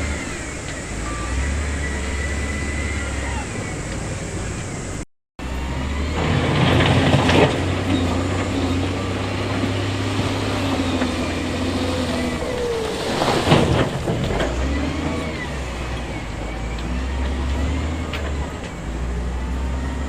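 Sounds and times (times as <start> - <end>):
heavy diesel machinery engine drone: 0.0 - 20.0.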